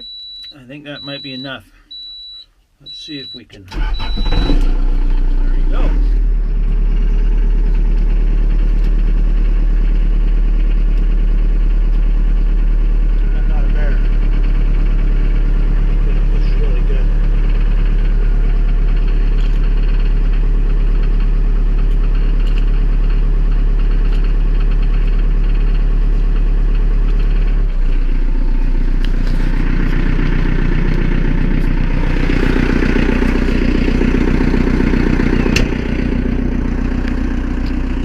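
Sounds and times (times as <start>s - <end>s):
diesel engine idling: 3.7s - 38.0s.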